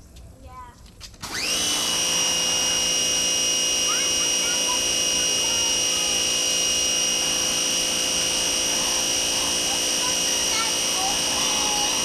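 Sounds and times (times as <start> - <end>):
pressure washer motor whine: 1.2 - 12.0.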